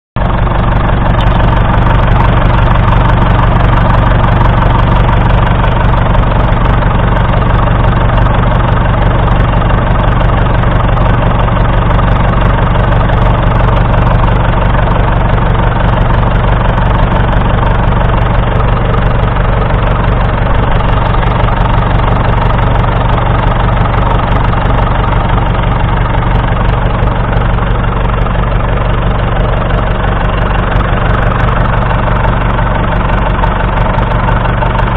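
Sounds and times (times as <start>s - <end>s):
diesel tractor engine idling: 0.2s - 34.9s.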